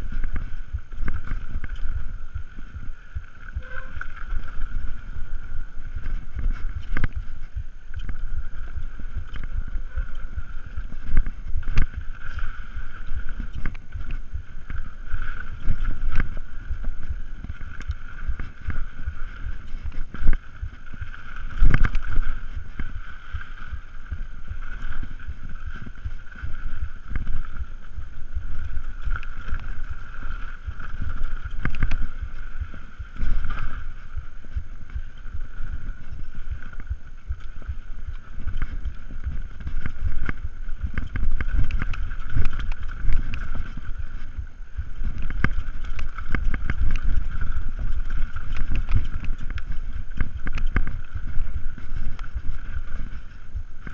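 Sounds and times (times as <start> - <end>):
wind rumbling on microphone: 0.0 - 53.9
bike knocks and rattles: 0.1 - 53.9.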